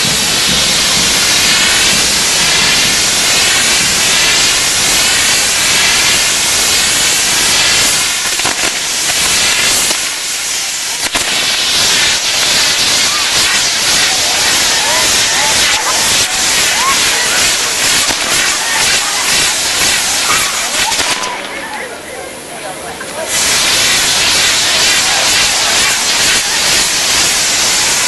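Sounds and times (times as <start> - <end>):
fireworks cracking: 0.0 - 21.9, 23.0 - 28.0
fireworks hissing: 0.0 - 28.0.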